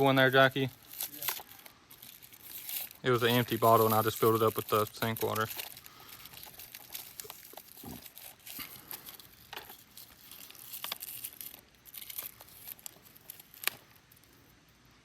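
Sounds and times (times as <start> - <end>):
wrapper crinkling and tearing: 0.0 - 14.4.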